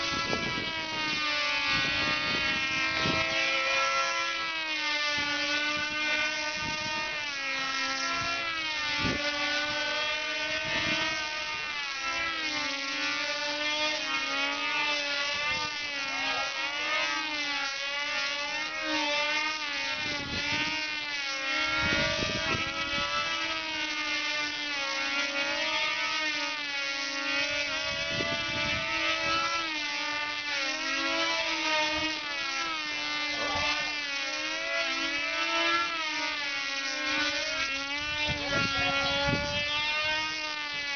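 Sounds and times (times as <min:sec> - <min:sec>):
model airplane engines buzzing: 0:00.0 - 0:40.9.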